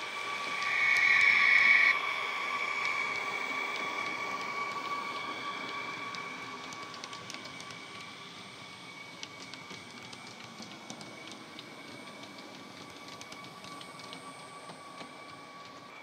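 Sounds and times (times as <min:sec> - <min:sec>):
model train whine: 0:00.0 - 0:16.0
wheels ticking on track: 0:02.8 - 0:15.9.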